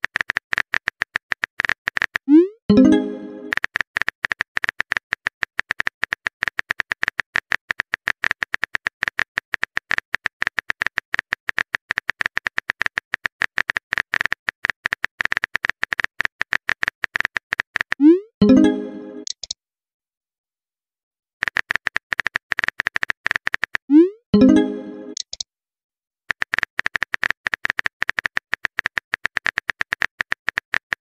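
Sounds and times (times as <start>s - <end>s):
synthetic keyboard tap clicks: 0.0s - 19.6s, 21.4s - 25.4s, 26.3s - 31.0s.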